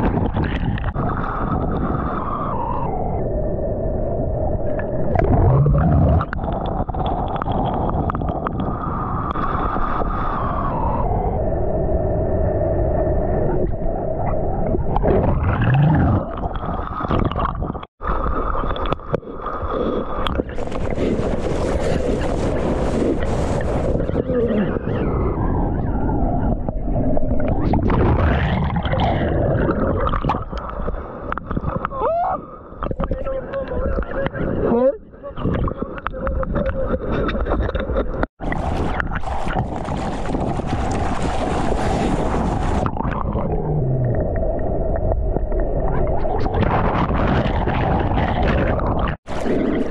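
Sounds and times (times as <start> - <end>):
wind noise: 0.0 - 49.9
seawater churning and splashing: 5.0 - 11.2, 14.6 - 49.9.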